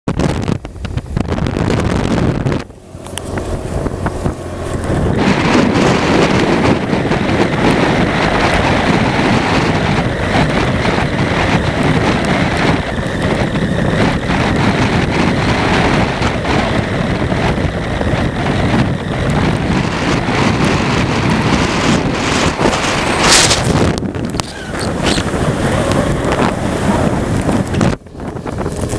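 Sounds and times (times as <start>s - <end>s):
motorcycle running: 0.1s - 28.9s
wind noise on microphone: 0.1s - 28.9s.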